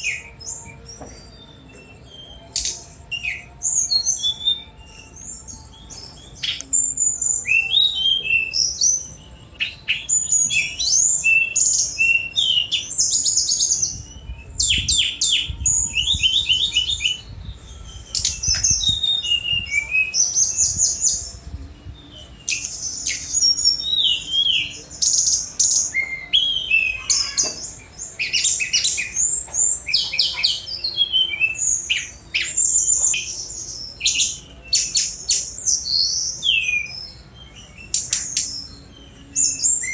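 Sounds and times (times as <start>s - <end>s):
bird singing fast song: 0.0s - 39.9s.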